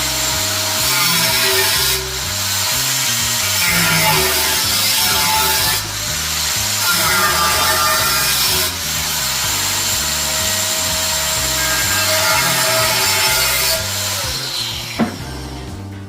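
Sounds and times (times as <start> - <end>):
power grinder whining: 0.0 - 15.8
background music with bass: 0.0 - 16.0.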